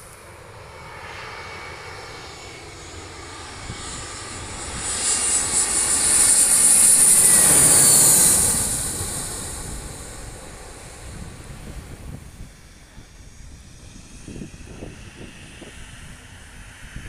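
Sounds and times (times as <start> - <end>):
airliner jet engines passing overhead: 0.0 - 17.0
high jet fan whine: 0.0 - 17.0.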